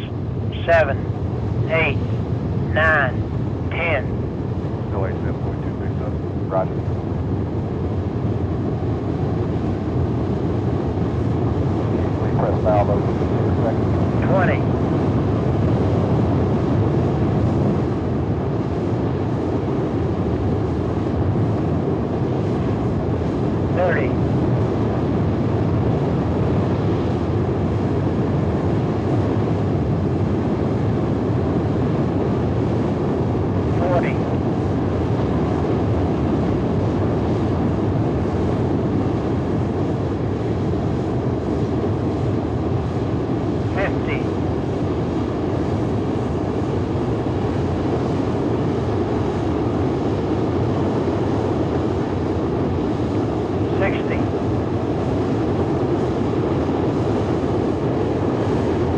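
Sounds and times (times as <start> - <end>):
rocket engine roaring: 0.0 - 58.9.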